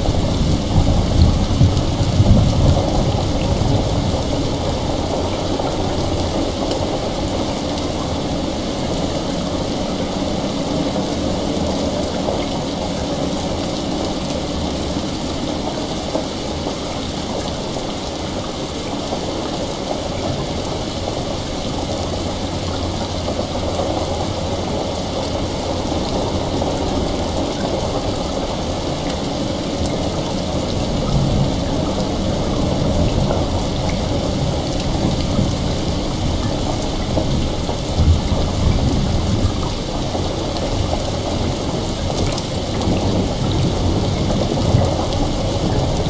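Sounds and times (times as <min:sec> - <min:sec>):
heavy rain: 0:00.0 - 0:46.0.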